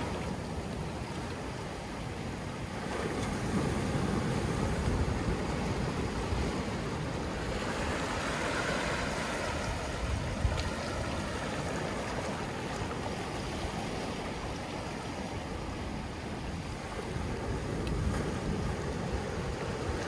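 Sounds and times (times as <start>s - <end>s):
low rumble of surf: 0.0s - 20.0s
small waves washing over rocks: 0.0s - 20.0s.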